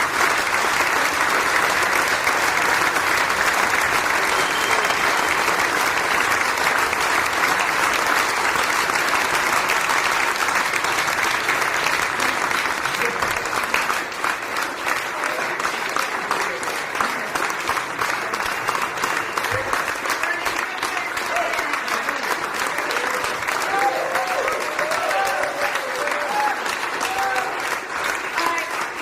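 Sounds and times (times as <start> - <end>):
studio audience applause: 0.0 - 29.0.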